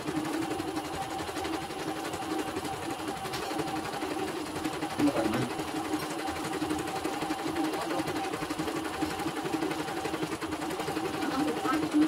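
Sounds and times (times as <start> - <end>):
embroidery machine stitching: 0.0 - 12.0.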